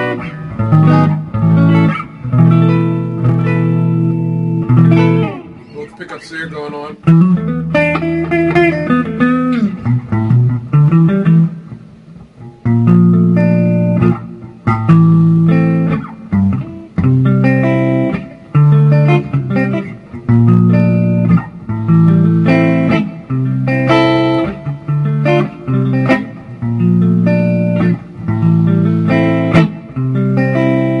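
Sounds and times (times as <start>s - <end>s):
electric guitar chords: 0.0s - 31.0s.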